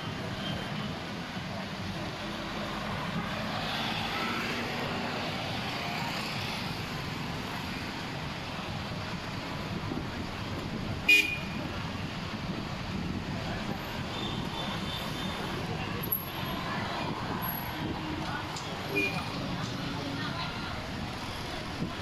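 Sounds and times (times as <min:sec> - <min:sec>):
passing traffic: 0:00.0 - 0:22.0.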